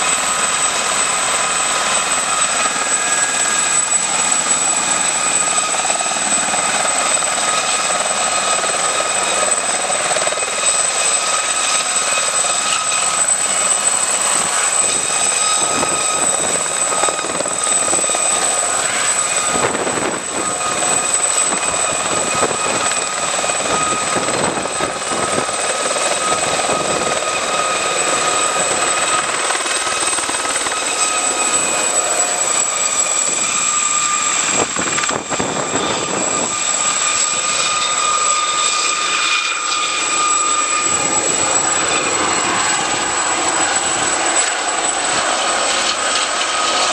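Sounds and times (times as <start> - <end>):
helicopter rotor wash: 0.0 - 46.9
helicopter turbine whine: 0.0 - 46.9.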